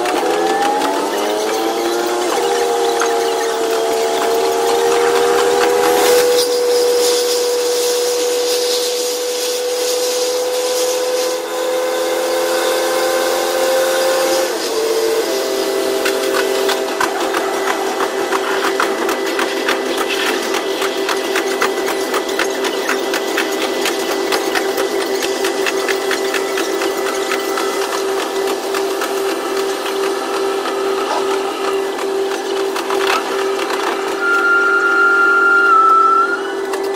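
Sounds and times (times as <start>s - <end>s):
wheels clicking on rails: 0.0s - 11.4s, 14.3s - 36.9s
diesel railcar hum: 0.0s - 36.9s
high steady whine: 1.9s - 36.9s.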